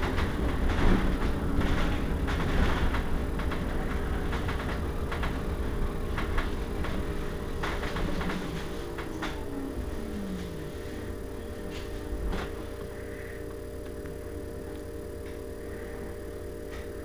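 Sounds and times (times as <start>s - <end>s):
electric bus hum: 0.0s - 17.0s.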